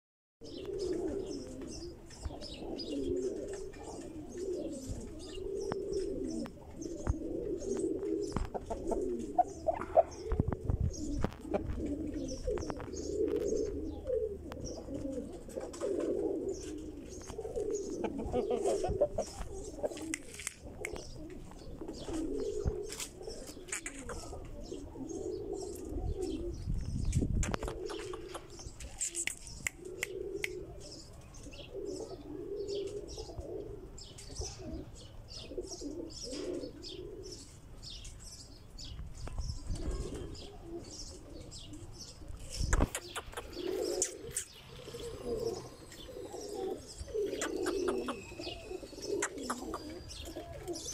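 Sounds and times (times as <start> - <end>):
pigeons cooing: 0.4 - 50.9
small birds chirping: 0.4 - 50.9.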